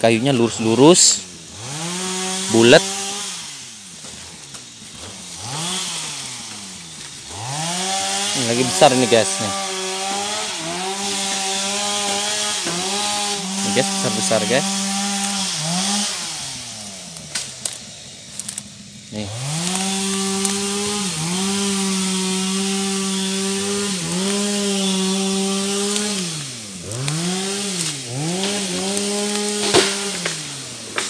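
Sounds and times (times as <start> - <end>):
two-stroke chainsaw revving: 0.0 - 31.0.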